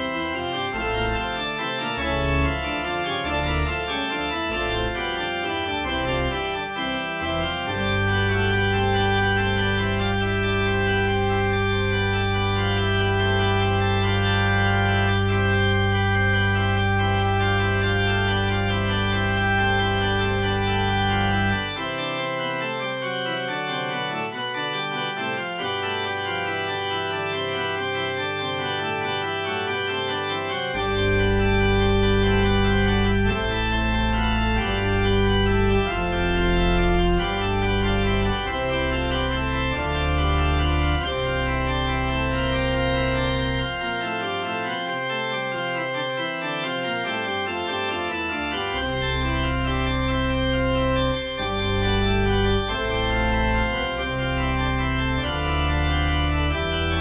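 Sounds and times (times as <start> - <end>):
deep organ bass notes: 0.0 - 57.0
organ playing slow chords: 0.0 - 57.0.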